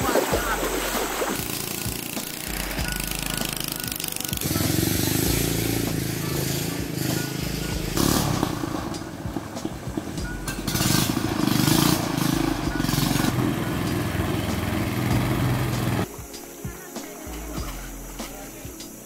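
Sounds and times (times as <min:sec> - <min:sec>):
boat motor running: 0:00.0 - 0:16.1
propeller spray: 0:00.0 - 0:19.0.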